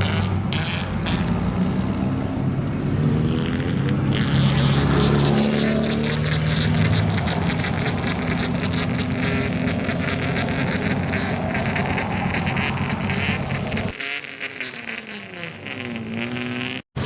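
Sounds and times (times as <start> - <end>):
loud raspy car engine: 0.0 - 17.0
quieter engine revving: 0.0 - 17.0.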